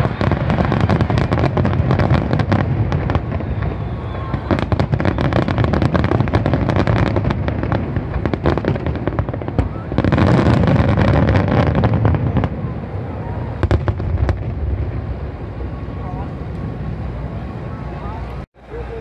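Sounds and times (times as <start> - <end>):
fireworks bursts and crackling: 0.0 - 17.4.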